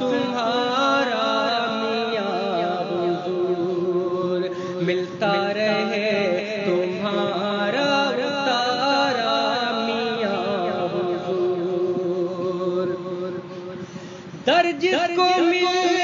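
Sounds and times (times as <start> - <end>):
voices chanting wordless melody: 0.0 - 16.0.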